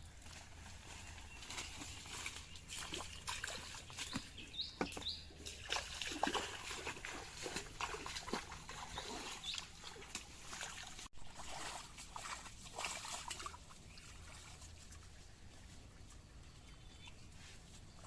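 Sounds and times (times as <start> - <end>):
water splashing by hand: 0.2 - 15.2.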